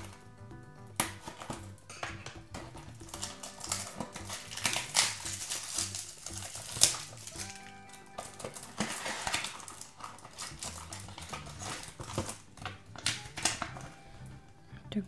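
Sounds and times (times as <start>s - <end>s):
plastic wrap crinkling: 0.0s - 0.2s, 1.0s - 14.5s
background music: 0.0s - 15.0s.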